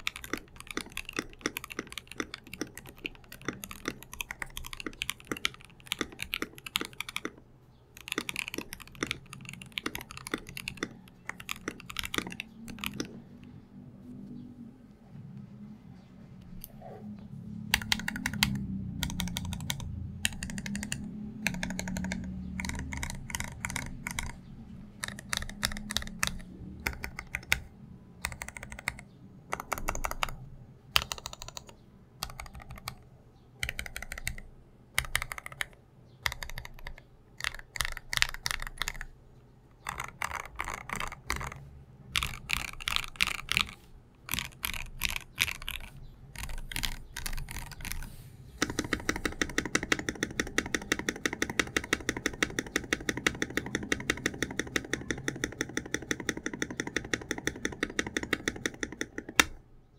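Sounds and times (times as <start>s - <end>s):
mechanical keyboard typing: 0.0s - 13.6s, 17.6s - 39.2s, 39.8s - 59.6s.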